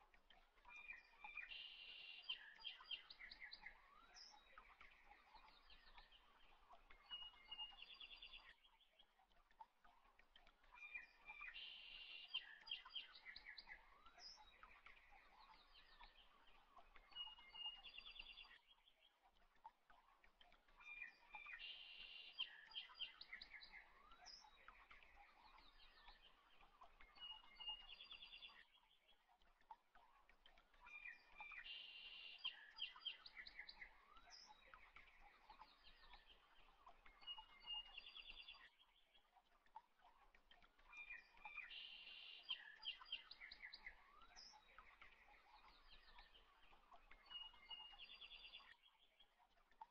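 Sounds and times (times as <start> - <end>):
faint birds chirping and trilling: 0.0 - 49.9.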